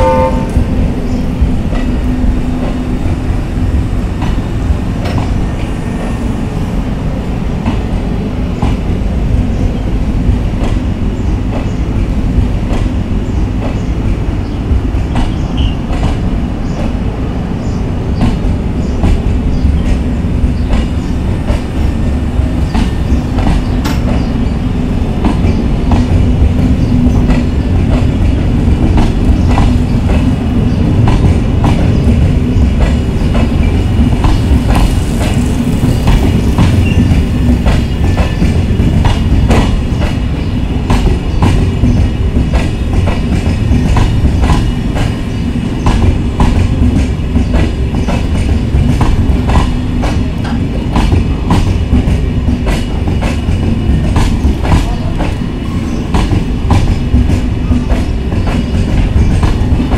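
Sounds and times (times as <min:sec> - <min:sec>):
wheels clickety-clack over rail joints: 0:00.0 - 0:06.3, 0:07.2 - 0:59.9
train wheels rumbling on track: 0:00.0 - 0:59.9.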